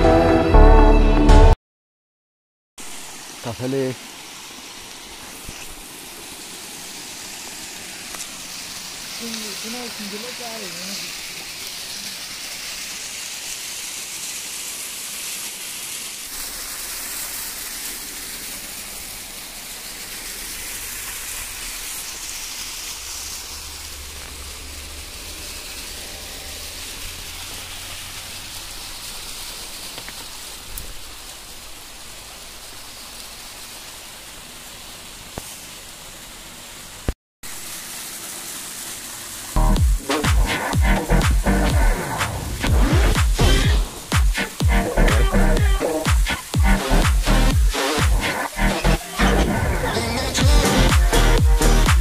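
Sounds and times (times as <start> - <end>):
water rushing over rocks: 2.8 - 52.0.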